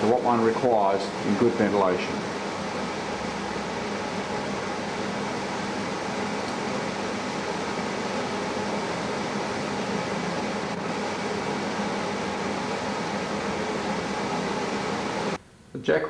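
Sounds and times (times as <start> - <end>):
electric blower rushing air: 0.0 - 15.4.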